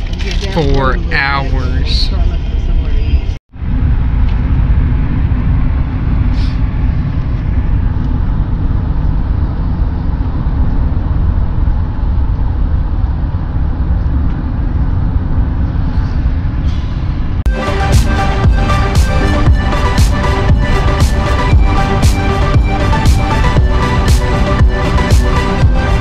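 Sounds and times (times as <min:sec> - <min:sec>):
car cabin road and engine rumble: 0:00.0 - 0:26.0.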